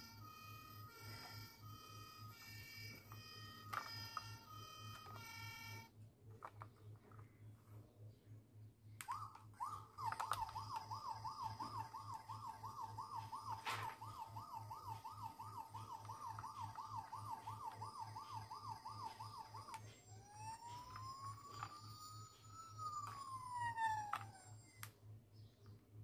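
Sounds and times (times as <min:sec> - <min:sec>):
toy police siren warbling: 0:00.0 - 0:05.9, 0:09.0 - 0:25.0.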